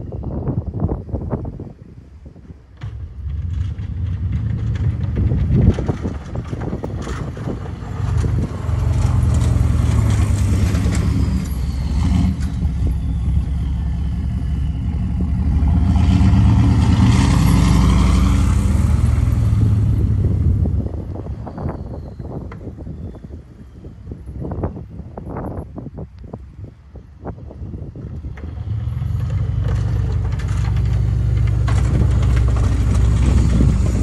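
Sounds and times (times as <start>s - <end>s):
diesel truck engine: 0.0s - 34.0s.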